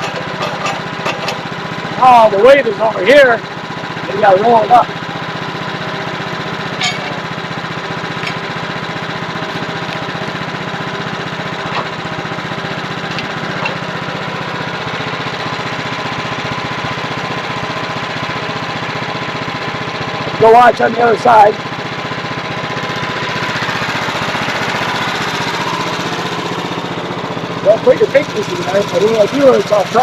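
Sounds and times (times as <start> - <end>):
sawmill engine running: 0.0 - 30.0.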